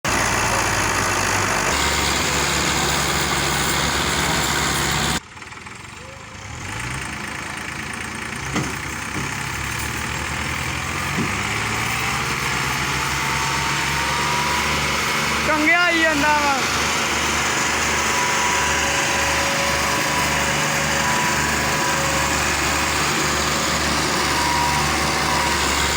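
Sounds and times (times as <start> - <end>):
tractor diesel engine under load: 0.0 - 25.9.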